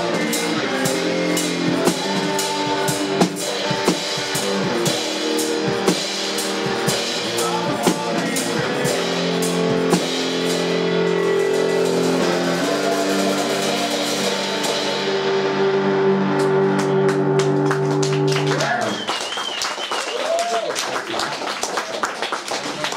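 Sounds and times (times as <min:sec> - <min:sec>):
electric guitar chords: 0:00.0 - 0:18.8
drum kit beat: 0:00.0 - 0:20.6.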